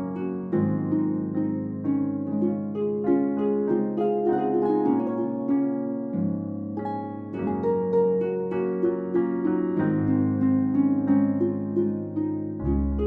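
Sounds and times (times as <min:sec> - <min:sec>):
plucked-string instrumental music: 0:00.0 - 0:13.0.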